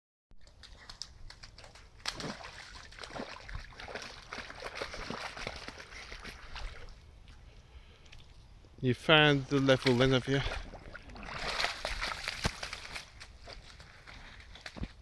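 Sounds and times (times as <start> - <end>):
dog splashing in muddy puddle: 0.4 - 7.5, 9.5 - 15.0.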